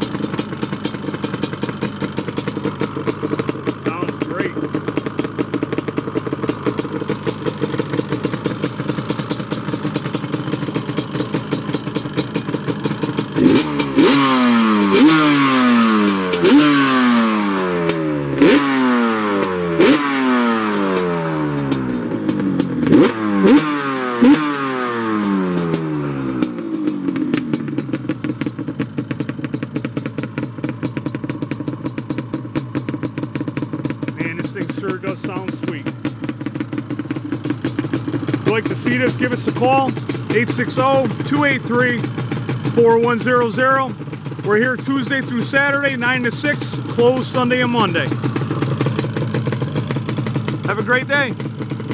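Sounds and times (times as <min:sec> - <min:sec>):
two-stroke engine idling and revving: 0:00.0 - 0:51.9.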